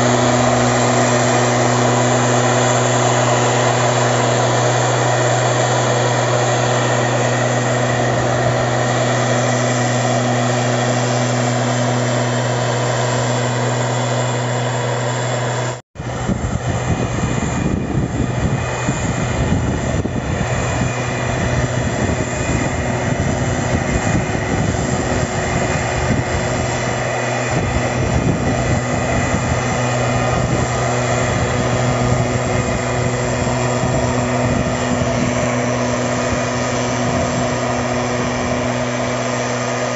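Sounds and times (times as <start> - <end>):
mist blower engine droning: 0.0 - 39.9
rushing air of blower fan: 0.0 - 39.9.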